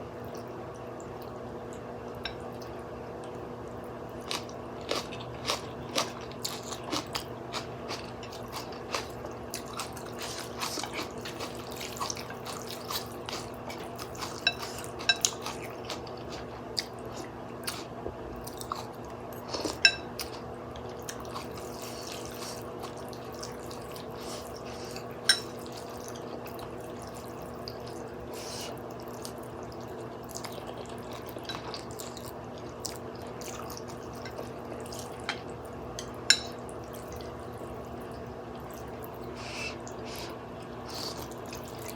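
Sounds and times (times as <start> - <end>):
faint steady hum: 0.0 - 41.9
chewing and slurping: 4.2 - 35.5, 36.8 - 41.9.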